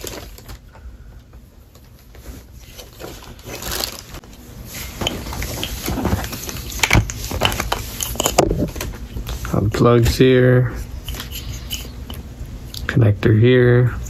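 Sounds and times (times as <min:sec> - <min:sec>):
wiring harness rustling: 0:00.0 - 0:12.2.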